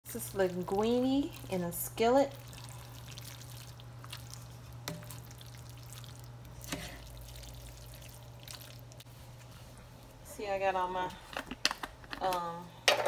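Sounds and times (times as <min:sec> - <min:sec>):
wet stirring of pasta: 0:00.1 - 0:11.2
steady low hum: 0:00.1 - 0:12.9.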